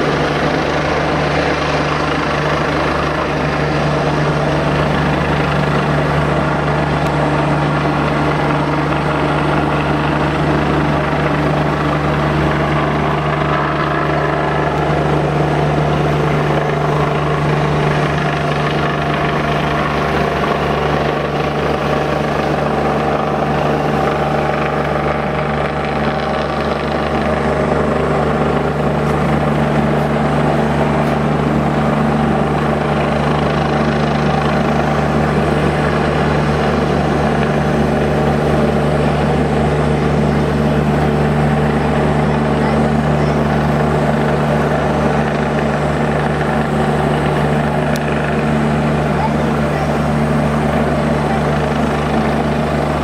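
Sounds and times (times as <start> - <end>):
helicopter rotor and engine drone: 0.0 - 53.0.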